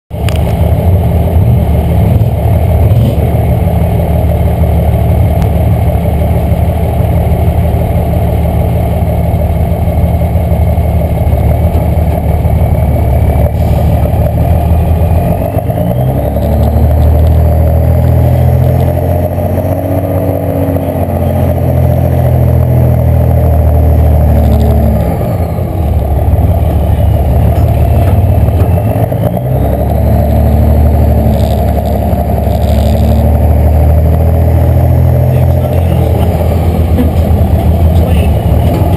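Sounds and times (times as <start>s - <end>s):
truck engine under load: 0.1s - 38.9s.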